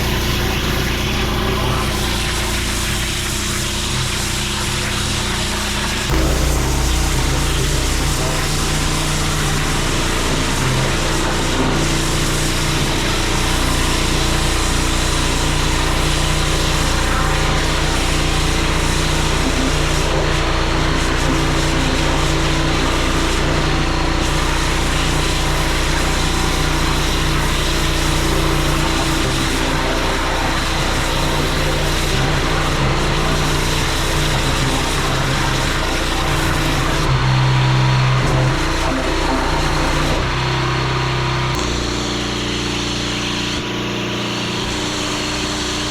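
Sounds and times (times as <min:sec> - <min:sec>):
hiss of high-pressure water jet: 0:00.0 - 0:37.2
pressure washer engine running: 0:00.0 - 0:45.9.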